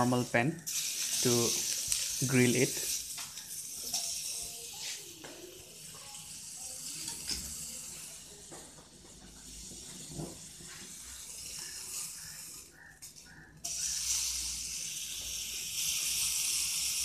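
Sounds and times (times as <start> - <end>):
chicken frying hiss: 0.0 - 17.0.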